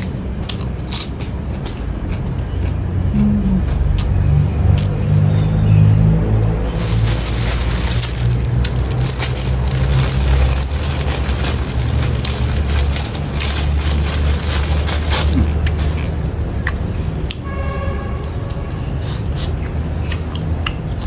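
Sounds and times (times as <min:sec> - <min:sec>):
chewing food: 0:00.0 - 0:04.9, 0:06.8 - 0:17.4, 0:18.5 - 0:21.0.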